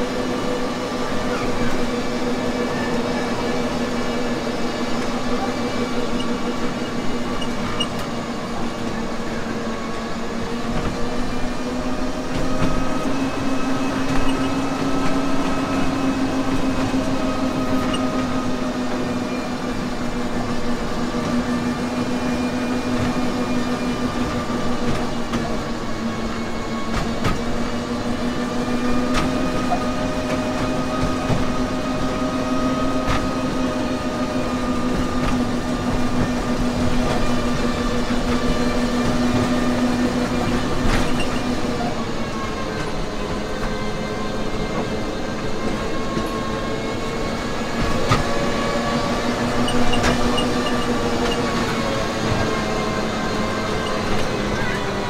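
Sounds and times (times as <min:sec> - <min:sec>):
locomotive droning hum: 0:00.0 - 0:55.0
train wheels rumbling: 0:00.0 - 0:55.0.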